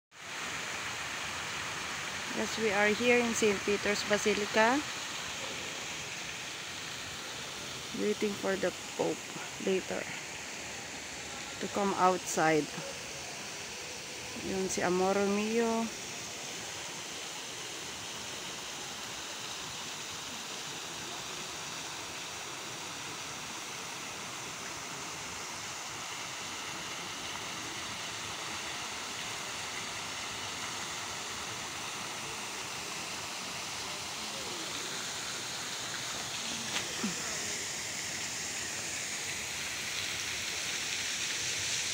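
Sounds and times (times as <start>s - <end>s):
falling water hiss: 0.1s - 41.9s.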